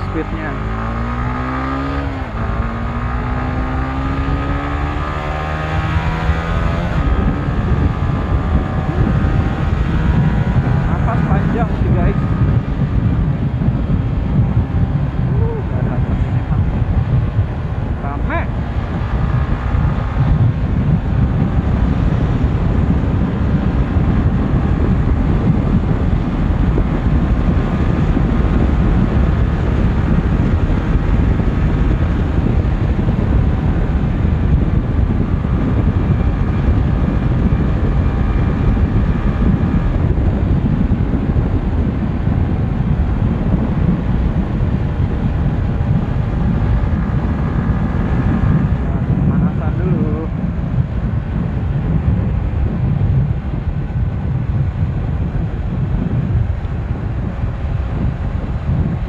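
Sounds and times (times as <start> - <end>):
motorcycle engine at high revs: 0.0 - 59.0
wind buffeting microphone: 0.0 - 59.0.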